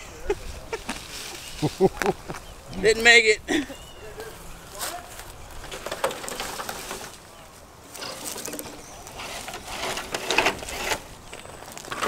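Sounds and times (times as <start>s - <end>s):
dry brush rustling and crackling: 0.2s - 12.0s.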